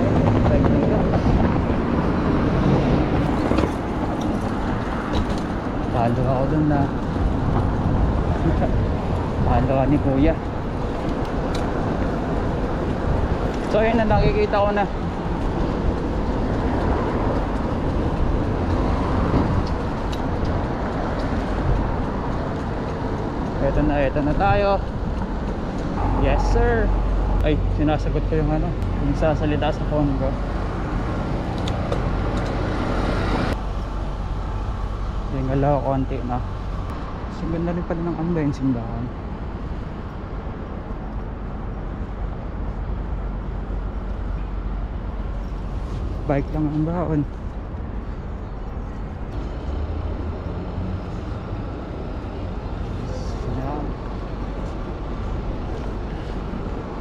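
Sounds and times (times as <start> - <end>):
city street traffic rumble: 0.0 - 57.0.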